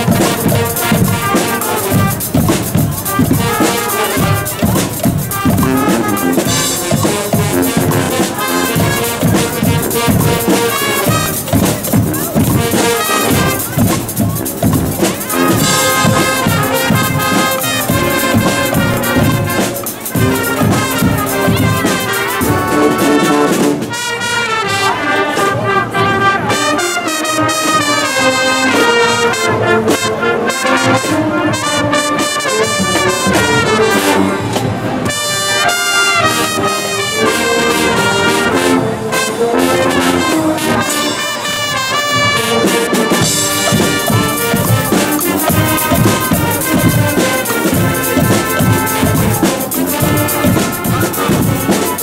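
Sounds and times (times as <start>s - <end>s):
brass band playing: 0.0s - 52.0s
drums: 0.0s - 52.0s.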